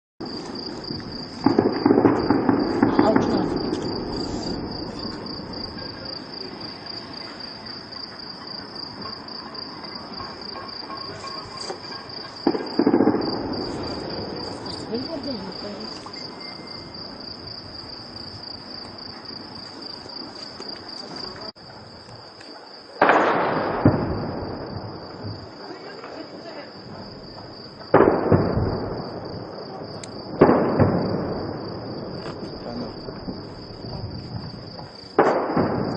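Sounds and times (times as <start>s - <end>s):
crickets trilling: 0.2s - 35.9s.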